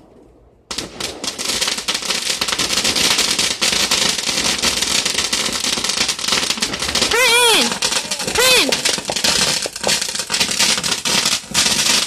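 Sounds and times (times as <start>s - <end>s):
firework crackling pops: 0.0s - 12.0s.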